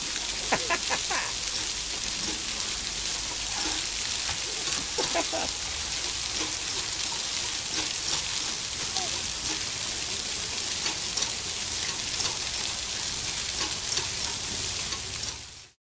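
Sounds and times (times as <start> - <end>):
fountain water splashing: 0.0 - 15.8.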